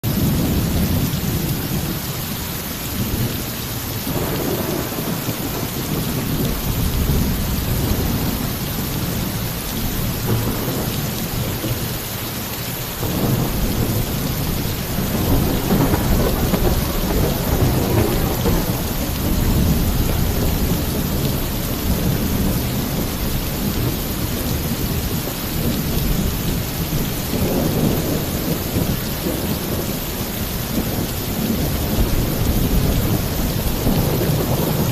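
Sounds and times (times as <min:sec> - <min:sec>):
heavy rain on a roof: 0:00.0 - 0:34.9
rolling thunder: 0:03.0 - 0:34.9.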